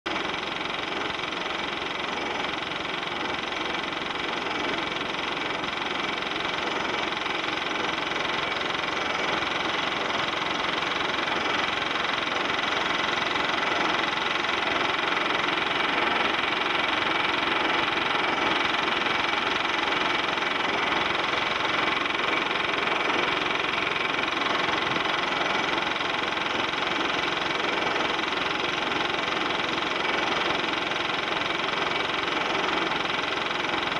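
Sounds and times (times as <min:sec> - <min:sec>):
film projector whirring: 0:00.1 - 0:33.9
projector clatter: 0:00.1 - 0:33.9.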